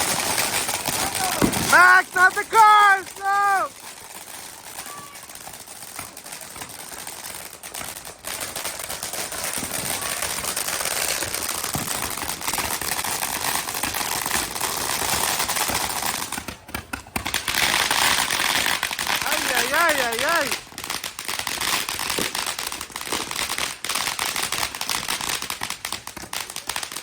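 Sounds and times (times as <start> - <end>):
firecrackers popping: 0.0 - 27.0.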